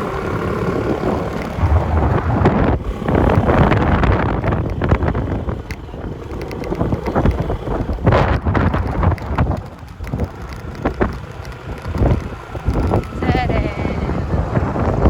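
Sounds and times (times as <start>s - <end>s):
low steady rumble: 0.0s - 15.0s
wind buffeting microphone: 0.0s - 15.0s.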